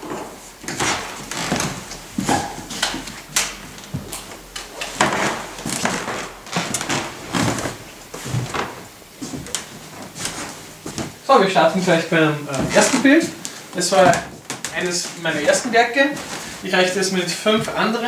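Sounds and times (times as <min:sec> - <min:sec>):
footsteps: 0:00.0 - 0:18.0
rustling: 0:00.0 - 0:18.0.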